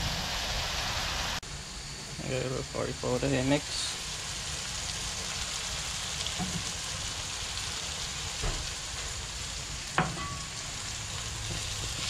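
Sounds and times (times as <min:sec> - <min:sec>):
paste sizzling in hot oil: 0:02.2 - 0:12.0.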